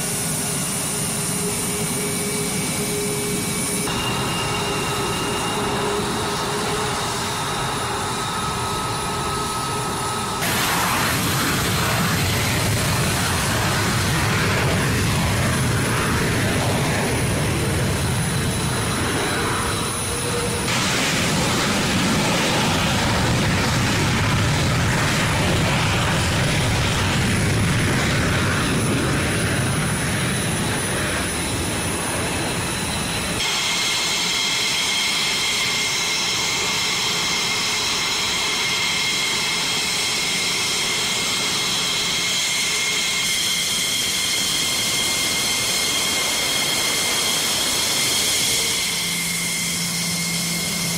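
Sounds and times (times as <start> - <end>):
fighter jet roaring on takeoff: 0.0 - 50.9
jet turbine whine: 0.0 - 50.9.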